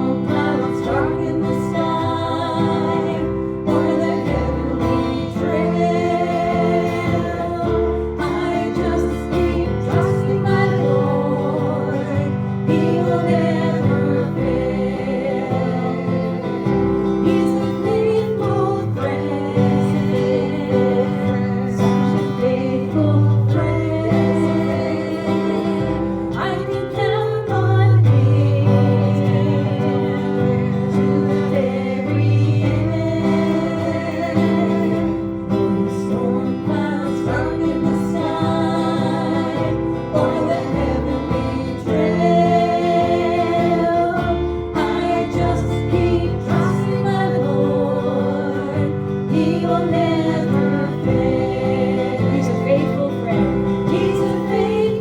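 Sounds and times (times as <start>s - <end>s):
guitar accompaniment: 0.0s - 55.0s
person singing gospel song: 0.0s - 55.0s.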